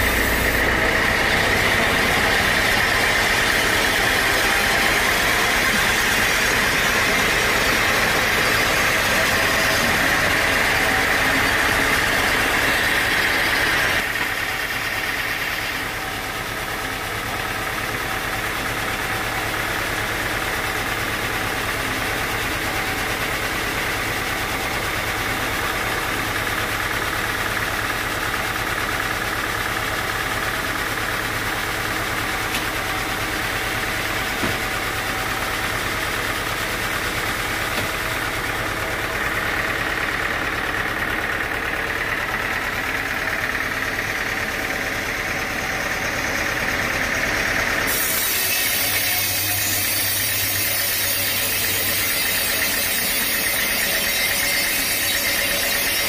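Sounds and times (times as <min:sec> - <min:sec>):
high machine whine: 0:00.0 - 0:56.0
sawmill machinery drone: 0:00.0 - 0:56.0.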